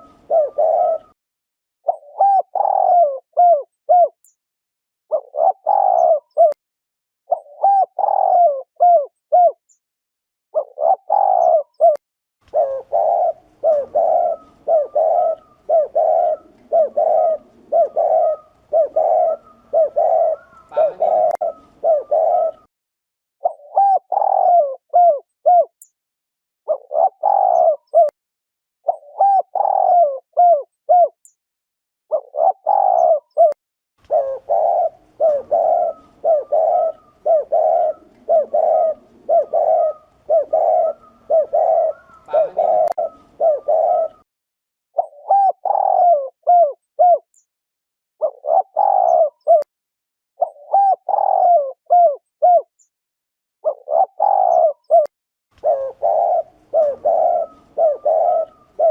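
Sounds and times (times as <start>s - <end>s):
doves cooing: 0.0s - 1.2s, 1.9s - 4.2s, 5.1s - 6.6s, 7.3s - 9.6s, 10.6s - 22.7s, 23.4s - 25.7s, 26.7s - 28.1s, 28.9s - 31.1s, 32.1s - 44.2s, 45.0s - 47.2s, 48.2s - 49.7s, 50.4s - 52.7s, 53.6s - 58.9s.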